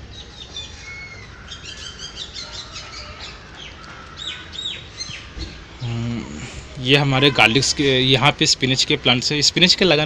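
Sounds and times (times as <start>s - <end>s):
small birds chirping: 0.0s - 10.0s
bird falling calls: 0.1s - 8.2s.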